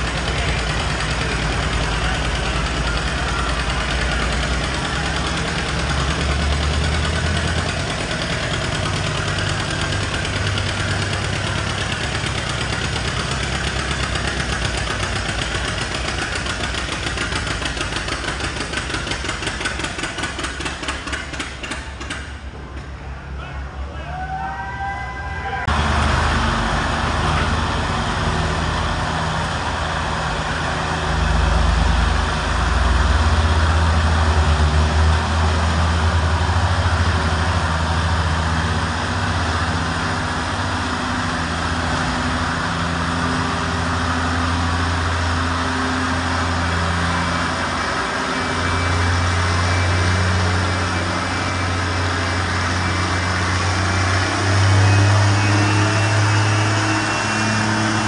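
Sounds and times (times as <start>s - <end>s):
tractor engines running hard: 0.0s - 58.0s.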